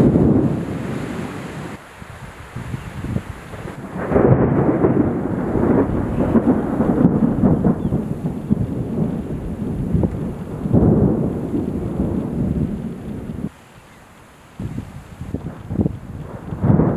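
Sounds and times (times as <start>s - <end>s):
rolling thunder: 0.0s - 13.6s, 14.6s - 16.9s.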